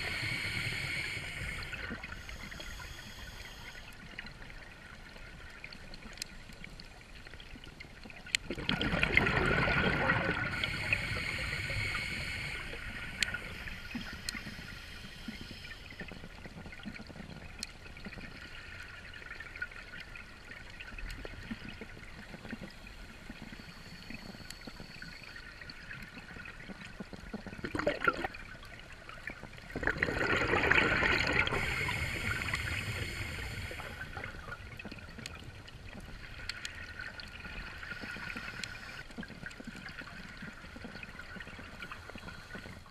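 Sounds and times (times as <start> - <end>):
underwater exhaust bubbles gurgling: 0.0 - 42.9.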